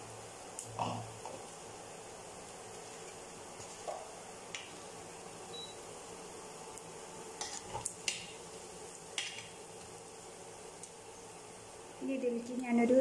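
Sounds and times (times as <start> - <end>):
onions frying in a pan: 0.0 - 13.0.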